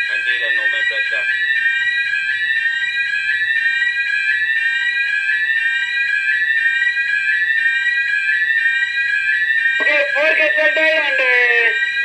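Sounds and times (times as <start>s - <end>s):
electronic alarm siren: 0.0s - 12.0s.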